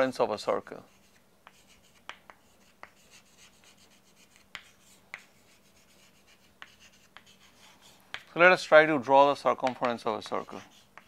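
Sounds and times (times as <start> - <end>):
chalk scratching on chalkboard: 0.7 - 8.8, 9.6 - 11.0
chalk tapping on board: 0.9 - 8.3, 9.5 - 11.0.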